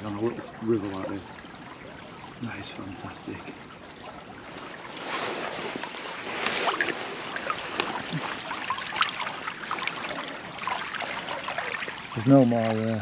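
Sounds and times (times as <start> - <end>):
stream water splashing: 0.0 - 13.0.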